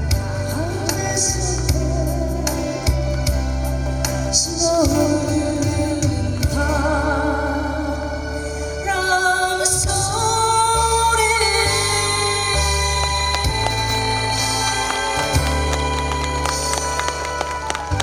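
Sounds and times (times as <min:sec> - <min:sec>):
bass and keyboard backing track: 0:00.0 - 0:18.0.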